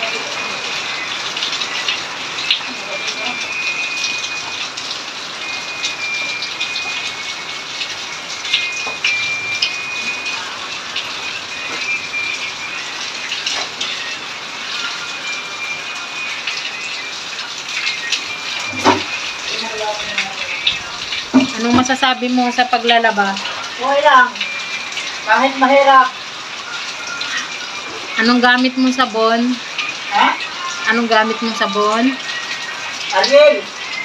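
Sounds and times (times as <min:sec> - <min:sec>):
rain splashing on concrete: 0:00.0 - 0:34.0
thin high tone: 0:00.0 - 0:34.0.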